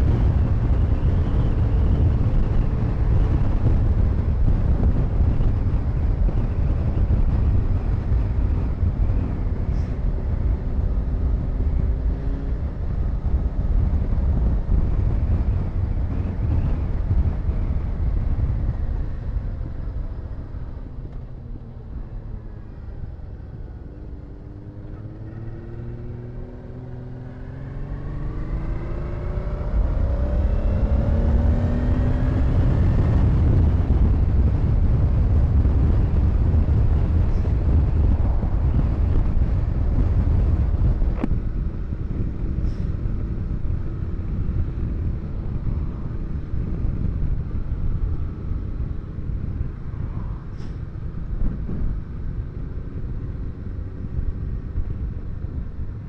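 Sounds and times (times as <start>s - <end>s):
wind rushing over camera: 0.0s - 56.0s.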